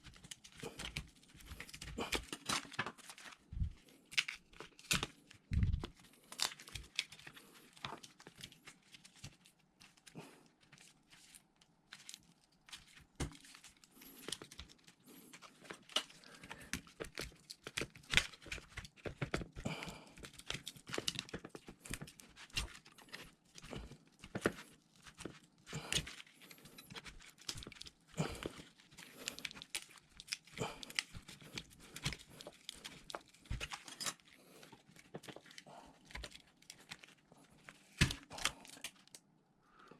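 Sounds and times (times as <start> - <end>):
crinkling tearing sounds: 0.0 - 39.3
small clicks and scrapes: 0.0 - 39.3.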